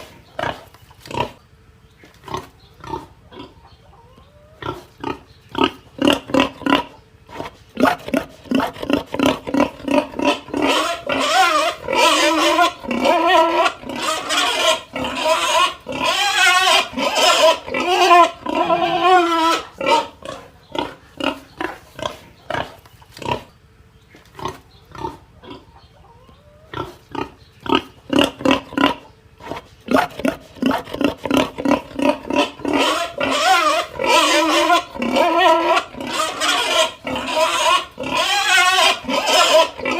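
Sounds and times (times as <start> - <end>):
pig squealing and grunting: 0.0 - 1.4, 2.2 - 23.6, 24.3 - 39.9.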